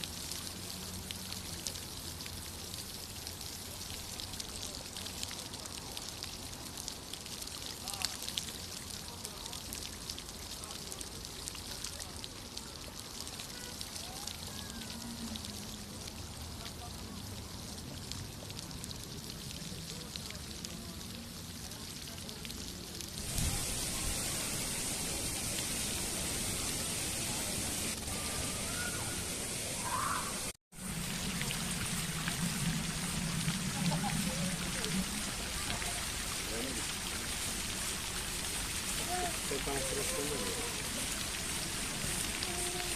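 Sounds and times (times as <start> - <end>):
running water splashing: 0.0 - 42.9.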